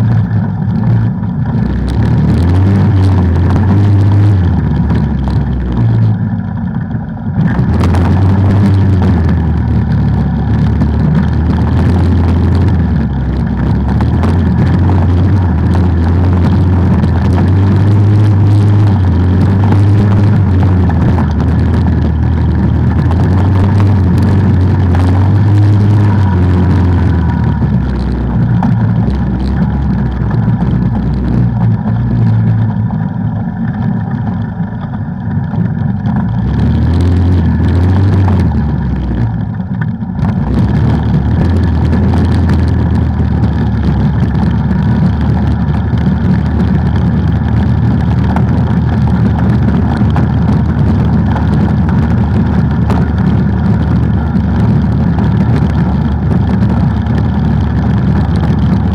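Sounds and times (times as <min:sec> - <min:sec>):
off-road vehicle engine revving: 0:00.0 - 0:58.9.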